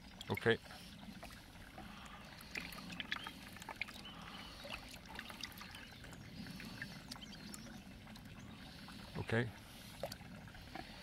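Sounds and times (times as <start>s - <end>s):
water splashes and drips: 0.0s - 11.0s.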